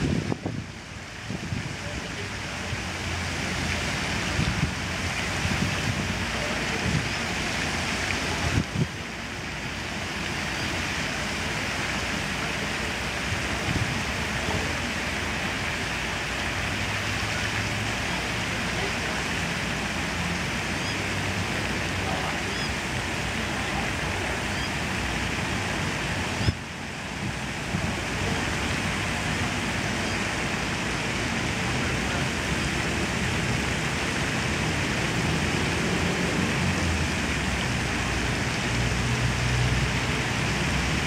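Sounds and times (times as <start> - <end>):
steady rushing outdoor noise: 0.0 - 41.0.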